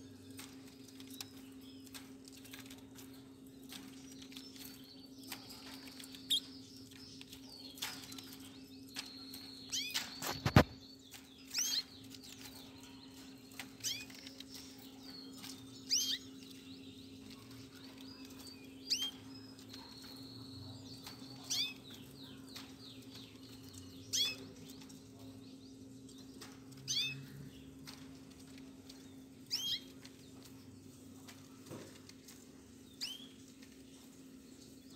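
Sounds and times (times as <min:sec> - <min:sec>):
canaries chirping: 0:00.0 - 0:34.9.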